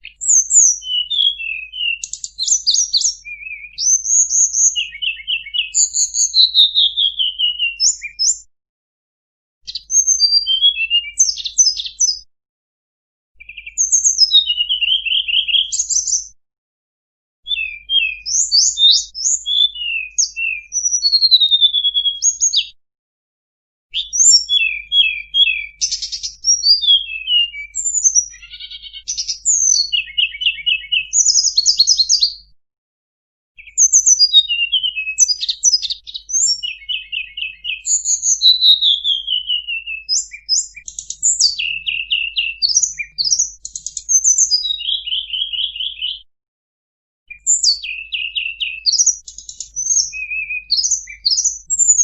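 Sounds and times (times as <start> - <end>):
bird singing chirps and trills: 0.0 - 8.4, 9.7 - 12.2, 13.4 - 16.4, 17.5 - 22.8, 24.0 - 32.5, 33.6 - 46.2, 47.3 - 52.0.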